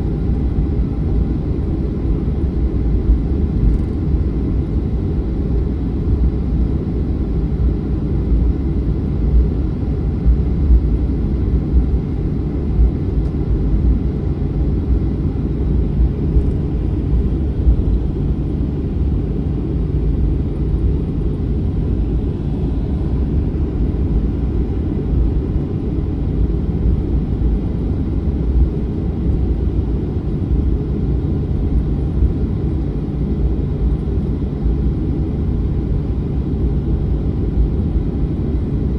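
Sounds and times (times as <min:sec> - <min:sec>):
jet engines low rumble: 0:00.0 - 0:38.9.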